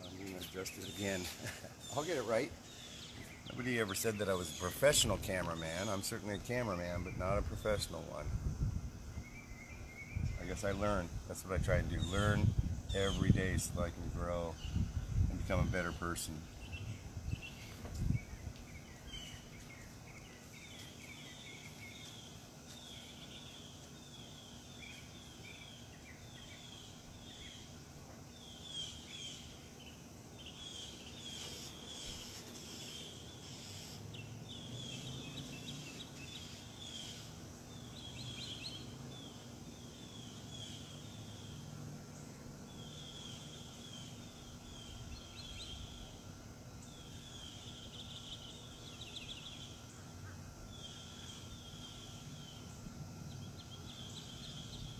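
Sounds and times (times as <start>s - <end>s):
birds chirping: 0.0s - 54.9s
faint steady hum: 0.0s - 54.9s.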